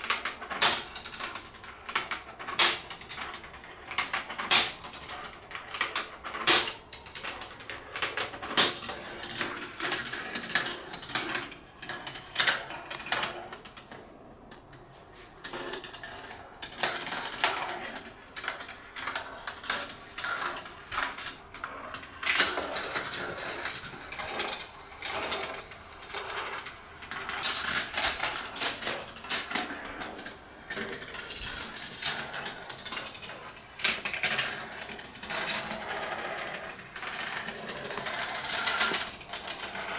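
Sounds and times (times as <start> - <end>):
marbles clicking and clacking: 0.0 - 13.9, 15.4 - 39.9
marbles rolling on plastic rails: 0.0 - 39.9.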